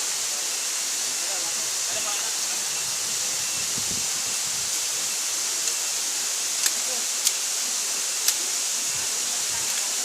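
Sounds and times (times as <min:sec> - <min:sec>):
waterfall hiss: 0:00.0 - 0:10.0.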